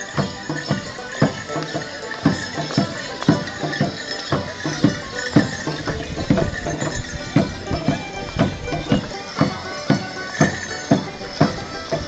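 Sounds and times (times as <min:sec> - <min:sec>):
drum beating: 0:00.0 - 0:12.0
folk band playing dance tune: 0:00.0 - 0:12.0.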